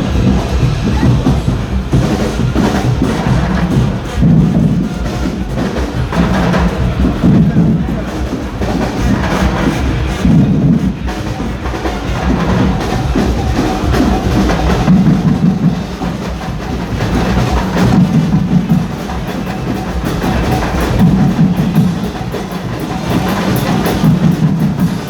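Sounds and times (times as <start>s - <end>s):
percussion band drums pounding: 0.0s - 25.0s.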